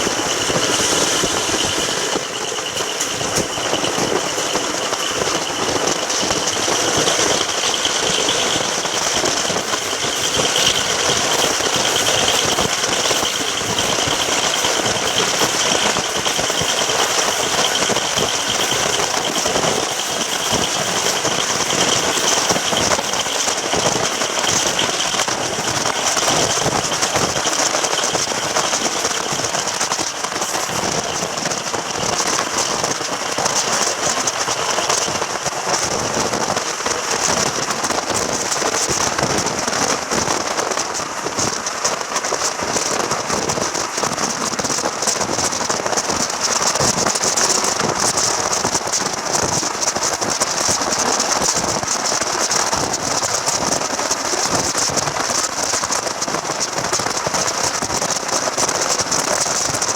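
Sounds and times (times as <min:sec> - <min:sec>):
train rushing and rattling: 0:00.0 - 0:59.9.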